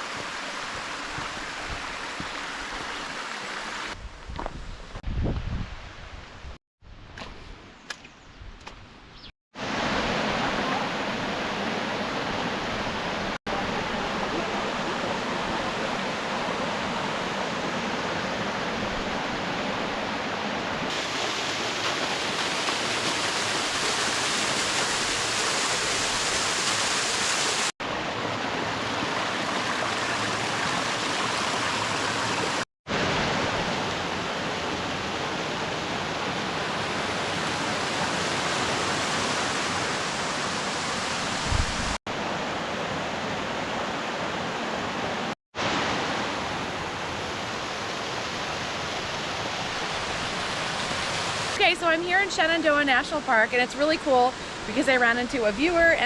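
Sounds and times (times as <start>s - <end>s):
water rushing over rocks: 0.0s - 4.0s, 9.6s - 56.0s.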